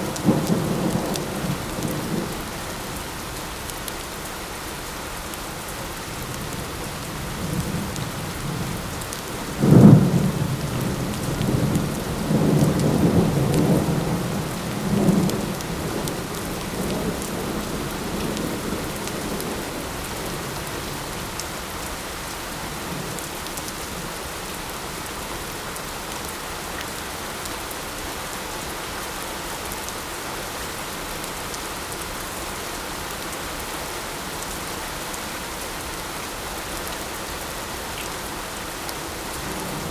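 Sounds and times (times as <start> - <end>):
light rain: 0.0 - 39.9.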